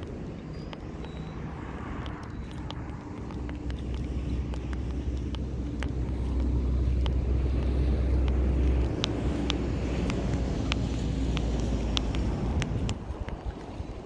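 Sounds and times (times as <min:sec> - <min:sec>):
sharp ticks: 0:00.0 - 0:14.0
wind buffeting microphone: 0:00.0 - 0:14.0.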